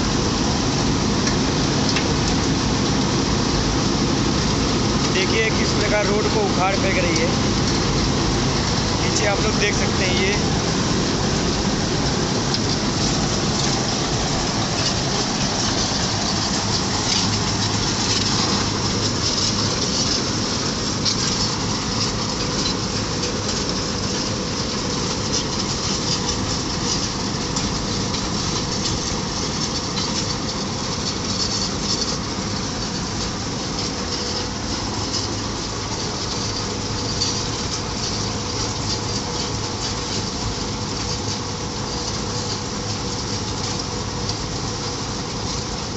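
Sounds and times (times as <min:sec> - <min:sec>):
diesel engine drone: 0:00.0 - 0:45.9
milling drum grinding asphalt: 0:00.0 - 0:45.9.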